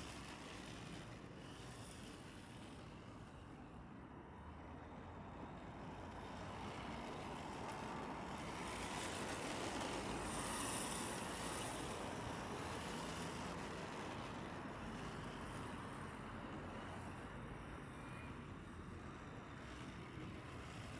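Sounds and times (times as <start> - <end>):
rc car tyres sliding on asphalt: 0.0 - 20.9.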